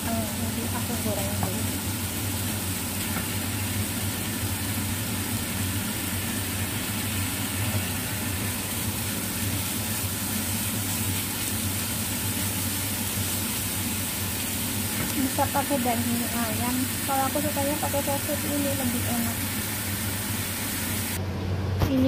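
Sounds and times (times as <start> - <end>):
sausage sizzling in a frying pan: 0.0 - 21.2
constant low hum: 0.0 - 22.0.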